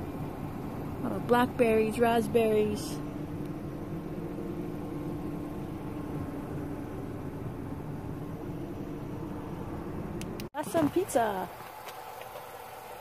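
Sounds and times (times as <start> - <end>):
vehicle idling: 0.0 - 13.0.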